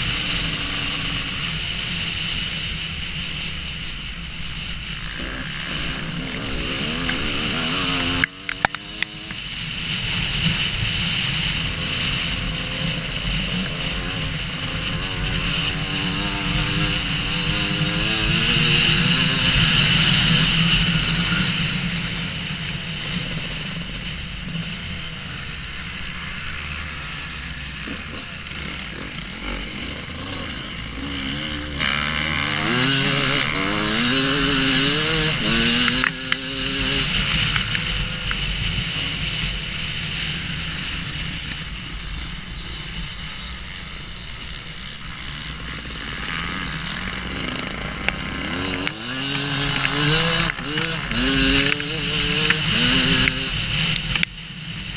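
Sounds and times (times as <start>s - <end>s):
motorcycle engine revving: 0.0s - 54.9s
steady rushing noise: 0.0s - 54.9s.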